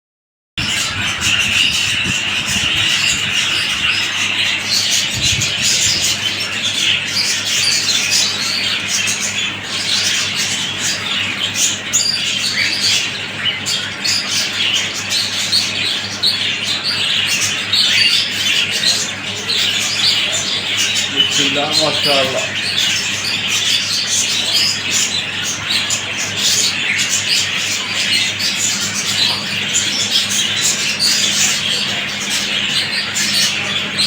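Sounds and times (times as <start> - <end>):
birds chirping and squawking: 0.6 - 34.0.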